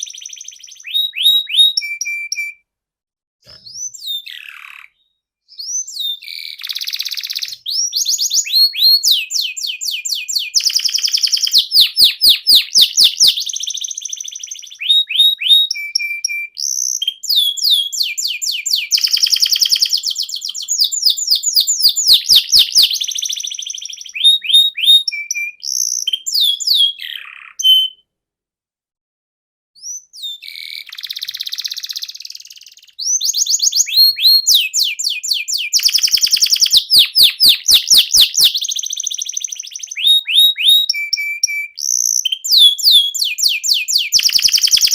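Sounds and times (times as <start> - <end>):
canary singing trills: 0.0 - 2.6, 3.5 - 28.0, 29.8 - 44.9.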